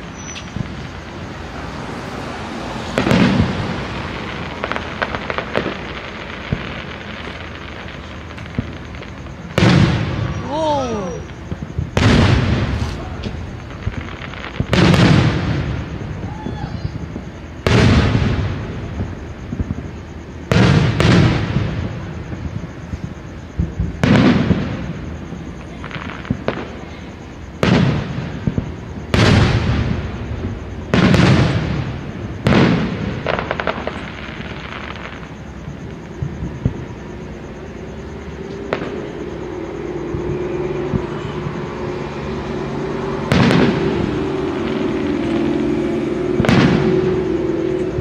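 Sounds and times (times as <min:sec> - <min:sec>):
firework crackling: 0:00.0 - 0:48.0.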